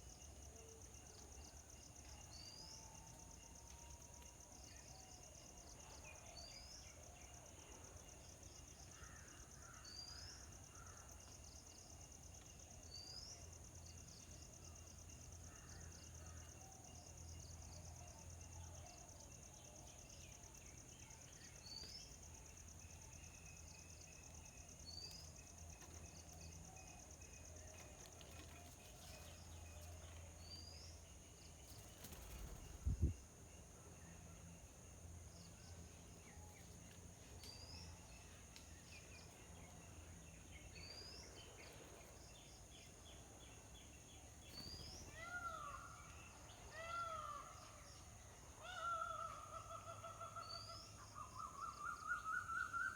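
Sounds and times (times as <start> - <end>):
high insect trill: 6.4 - 50.2.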